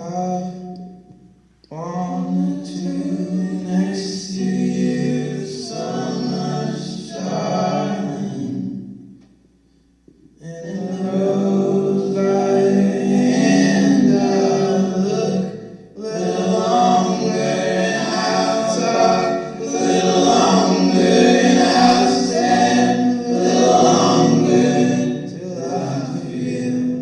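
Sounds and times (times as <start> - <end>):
choir singing sustained chords: 1.7 - 9.2, 10.4 - 27.0.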